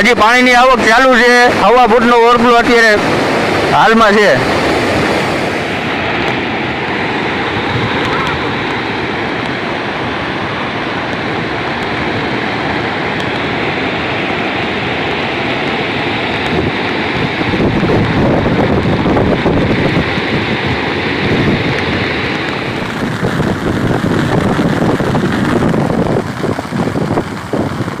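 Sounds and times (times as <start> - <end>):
water rushing over spillway: 0.0 - 28.0
wind buffeting microphone: 0.8 - 28.0.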